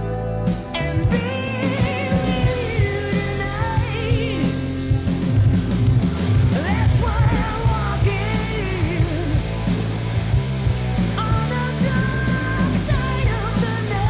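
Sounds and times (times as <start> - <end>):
rock band music: 0.0 - 14.0
steady drum beat: 0.5 - 14.0.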